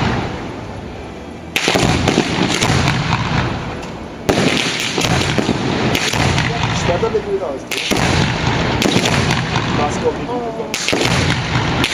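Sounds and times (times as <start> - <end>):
fireworks bursting: 0.0 - 11.9
fireworks crackling: 0.0 - 11.9.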